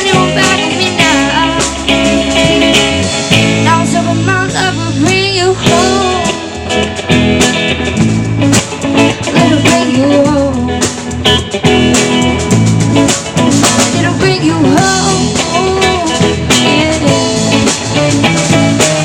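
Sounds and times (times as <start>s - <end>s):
bass: 0.0s - 19.0s
drum kit: 0.0s - 19.0s
guitar: 0.0s - 19.0s.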